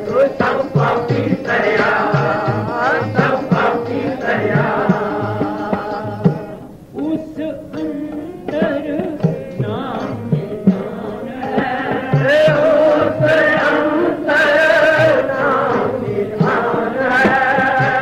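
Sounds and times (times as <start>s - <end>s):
harmonium drones: 0.0s - 18.0s
man singing a hymn: 0.0s - 18.0s
tabla beat: 0.0s - 18.0s.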